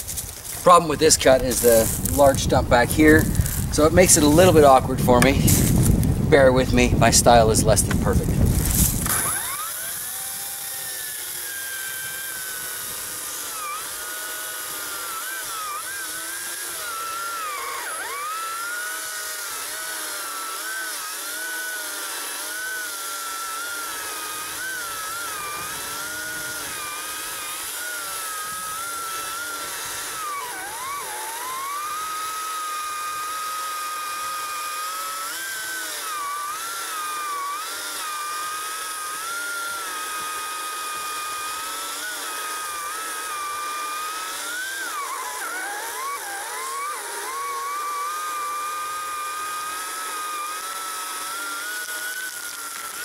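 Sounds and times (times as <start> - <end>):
electric chainsaw cutting wood: 0.0 - 53.0.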